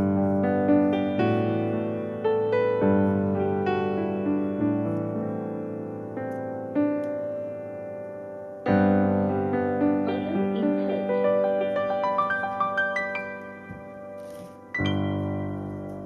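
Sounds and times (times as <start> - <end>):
piano notes and chords: 0.0 - 16.0.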